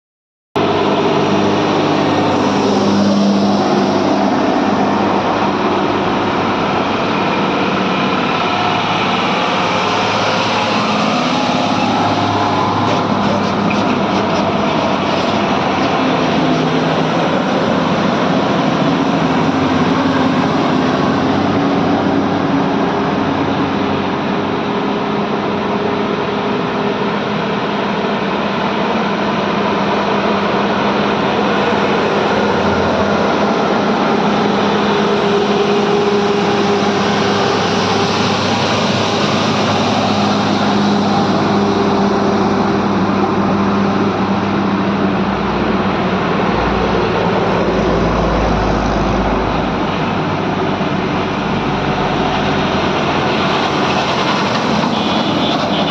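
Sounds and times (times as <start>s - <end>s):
heavy truck engine running: 0.6s - 55.9s
road noise: 0.6s - 55.9s.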